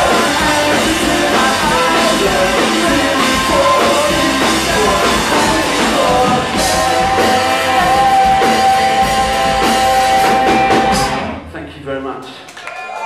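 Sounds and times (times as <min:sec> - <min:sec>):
person singing long high note: 0:00.0 - 0:11.2
live rock band playing: 0:00.0 - 0:11.5.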